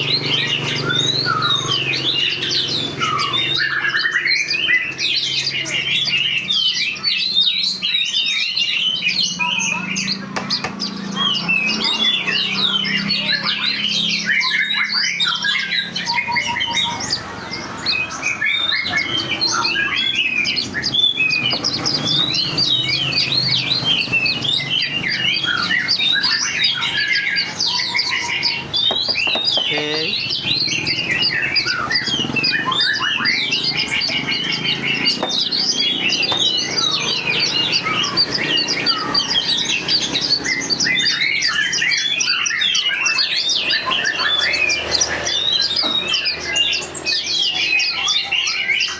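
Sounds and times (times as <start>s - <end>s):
many birds chirping and squawking: 0.0s - 48.9s.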